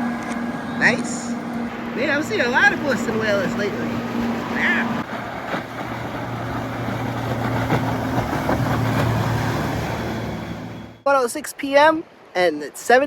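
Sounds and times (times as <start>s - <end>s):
outboard engines droning: 0.0s - 11.0s
rush of hull and wake: 0.0s - 13.0s.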